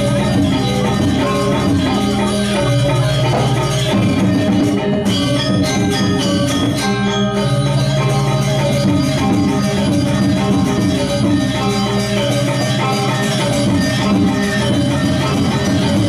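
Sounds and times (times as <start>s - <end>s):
gamelan music: 0.0s - 16.0s.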